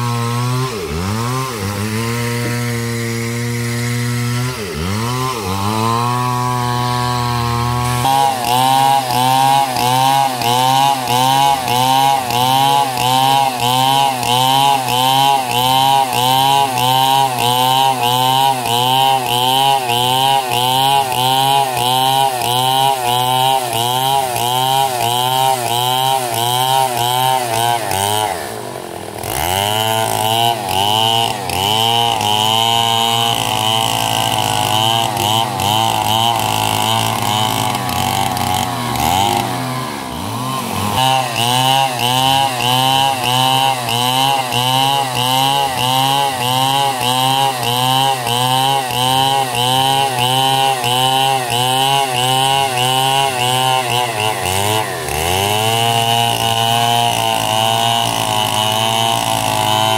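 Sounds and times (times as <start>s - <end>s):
chainsaw ripping a log: 0.0s - 59.9s.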